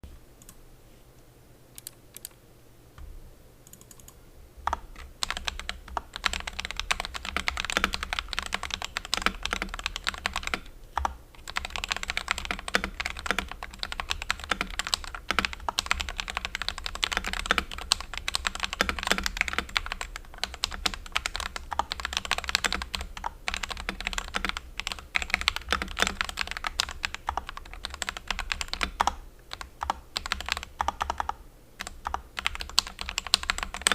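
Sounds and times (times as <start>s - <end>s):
clacky mechanical keyboard typing: 3.7s - 4.1s, 4.7s - 33.9s.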